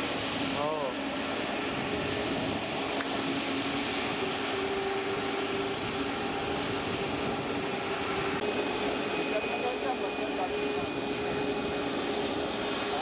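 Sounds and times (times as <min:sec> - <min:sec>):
faint engine whine: 0:00.0 - 0:13.0
jet engine noise: 0:00.0 - 0:13.0.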